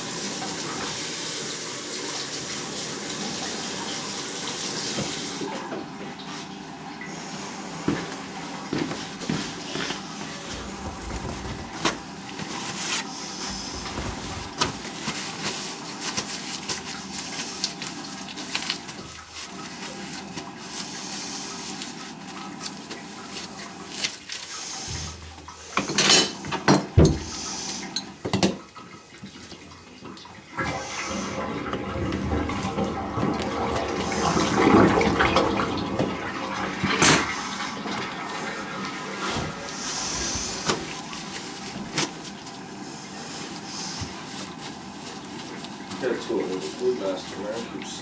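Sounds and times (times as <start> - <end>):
water running: 0.0 - 48.0.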